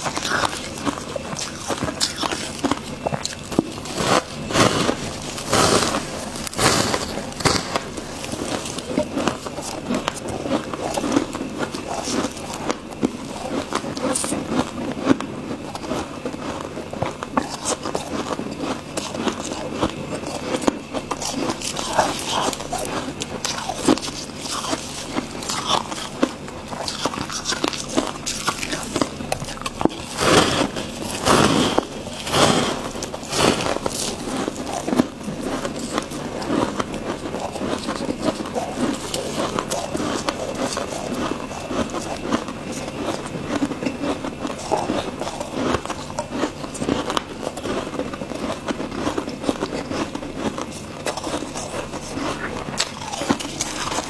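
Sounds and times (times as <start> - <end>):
frost crunching while chewed: 0.0 - 54.0.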